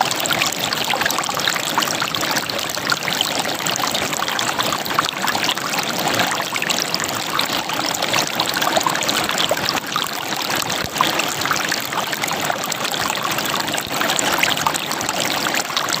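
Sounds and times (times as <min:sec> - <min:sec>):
river water over rocks: 0:00.0 - 0:16.0.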